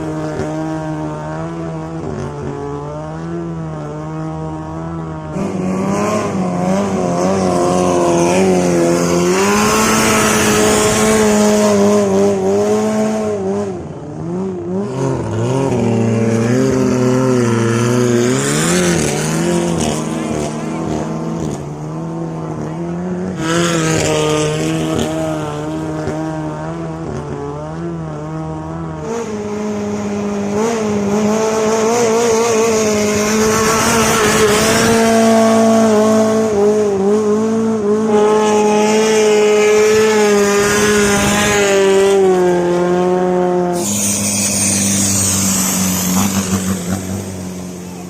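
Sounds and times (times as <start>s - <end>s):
racing boat engine at high revs: 0.0s - 48.0s.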